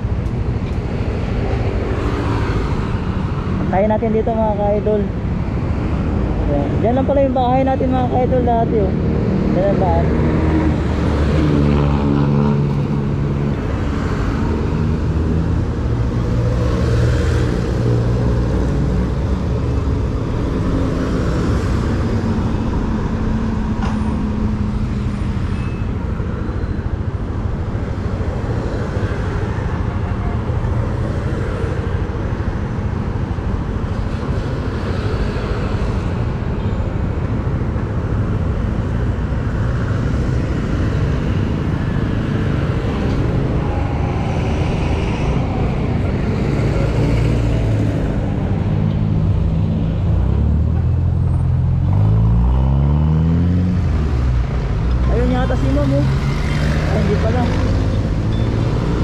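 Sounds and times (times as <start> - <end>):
road and traffic noise: 0.0 - 59.0.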